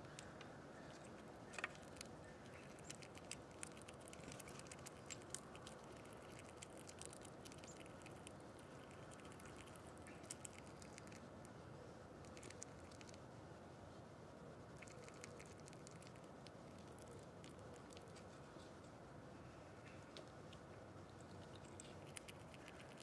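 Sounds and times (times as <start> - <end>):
small animal feeding ticks: 0.0 - 23.0
steady low hiss: 0.0 - 23.0.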